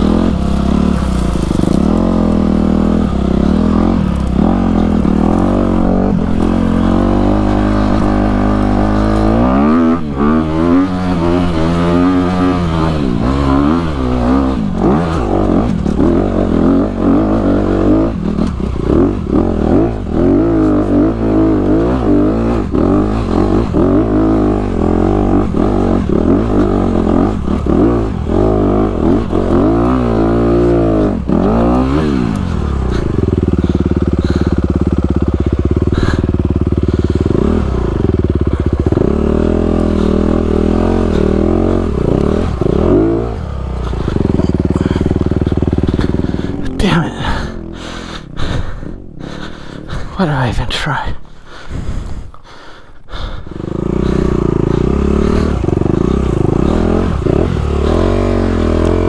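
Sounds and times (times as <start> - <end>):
dirt bike engine revving: 0.0 - 50.6, 51.4 - 59.0.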